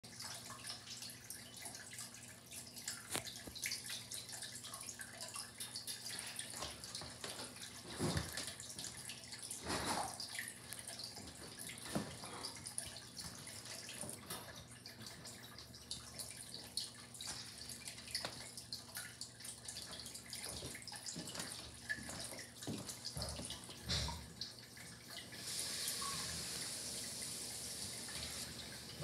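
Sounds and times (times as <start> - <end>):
aquarium water trickling: 0.0 - 29.0.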